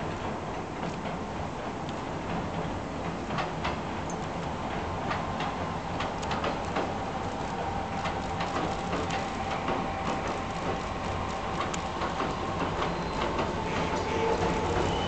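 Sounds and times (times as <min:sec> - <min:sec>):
faint high hum from rails: 0:00.0 - 0:15.0
light ticking of train on track: 0:00.0 - 0:15.0.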